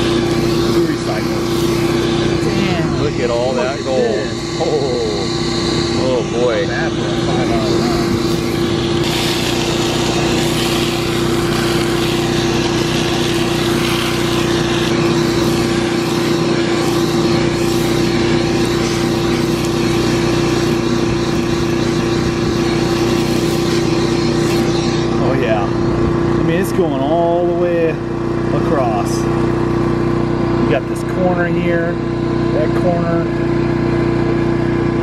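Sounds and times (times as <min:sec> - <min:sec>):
vacuum motor hum: 0:00.0 - 0:35.0.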